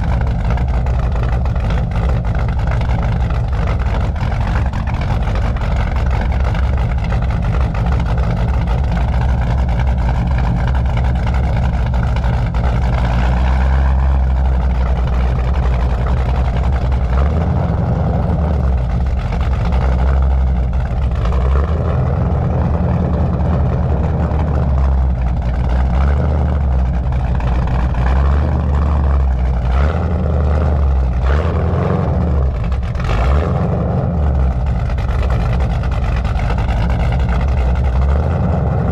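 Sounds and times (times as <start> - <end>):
car engine exhaust running loud: 0.0 - 38.9.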